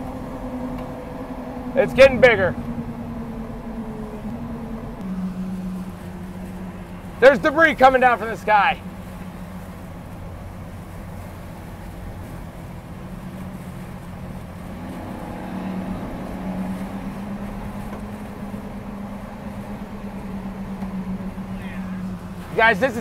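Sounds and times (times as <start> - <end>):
road noise: 0.0 - 23.0
rushing wind: 0.0 - 23.0
vehicle engine hum: 0.0 - 23.0.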